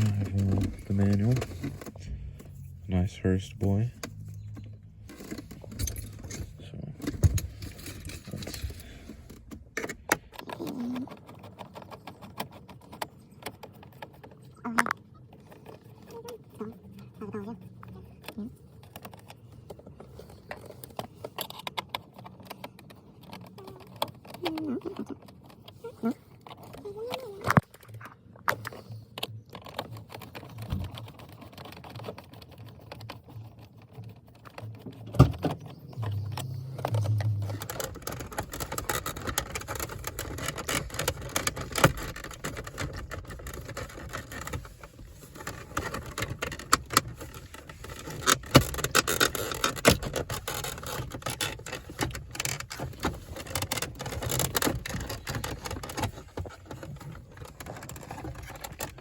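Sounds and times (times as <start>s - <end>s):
small plastic clicks and rattles: 3.8s - 59.0s.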